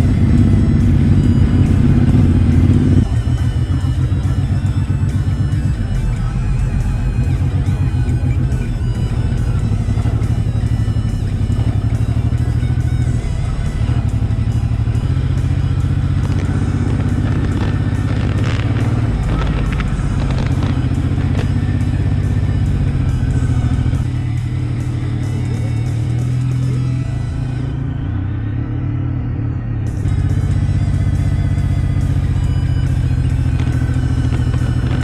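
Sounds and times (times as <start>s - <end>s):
background music: 0.0s - 35.0s
motorcycle engine running: 0.0s - 35.0s.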